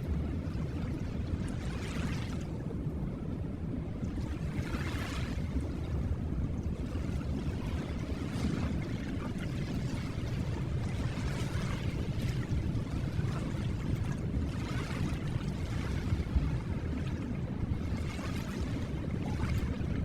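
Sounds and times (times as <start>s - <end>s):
ocean waves washing ashore: 0.0s - 20.0s.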